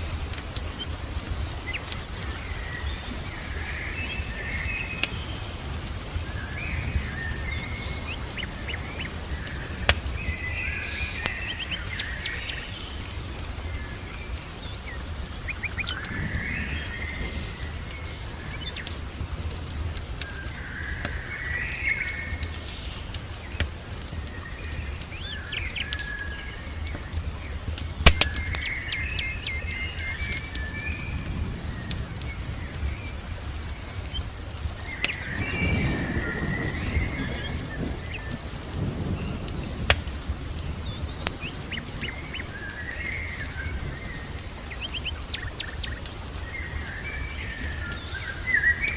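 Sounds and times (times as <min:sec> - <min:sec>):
fire crackling and popping: 0:00.0 - 0:48.9
songbirds chirping: 0:00.0 - 0:48.9.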